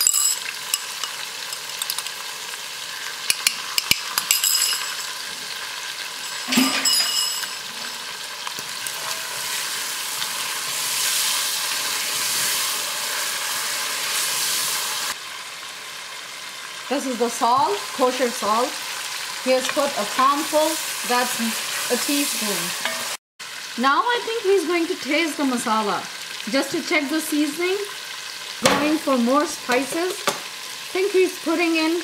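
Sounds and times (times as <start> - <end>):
meat sizzling in oil: 0.0 - 6.5, 7.2 - 32.0.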